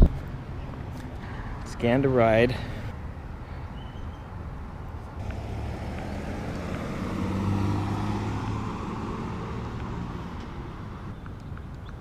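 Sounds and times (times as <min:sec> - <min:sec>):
road vehicle humming: 0:00.0 - 0:12.0.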